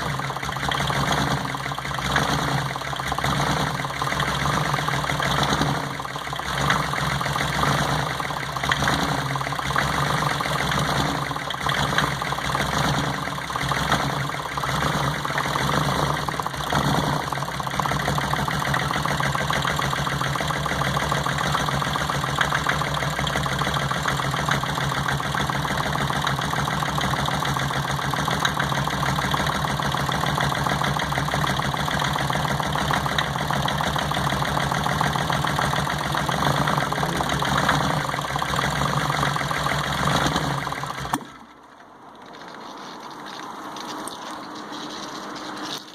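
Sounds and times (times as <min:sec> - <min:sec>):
engine idling unevenly: 0:00.0 - 0:42.8.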